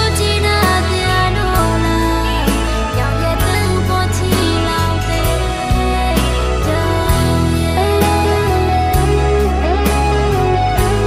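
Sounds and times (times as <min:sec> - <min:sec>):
song with beat and bass: 0:00.0 - 0:11.0.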